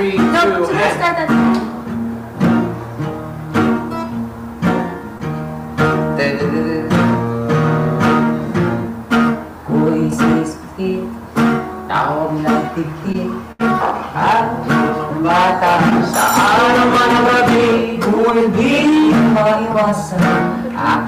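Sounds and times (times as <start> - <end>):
acoustic guitar strumming chords: 1.2 - 21.0.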